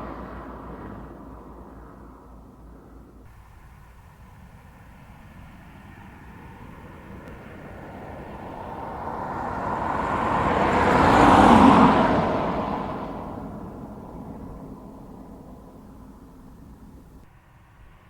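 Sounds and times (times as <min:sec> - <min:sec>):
car driving past: 0:00.0 - 0:18.0.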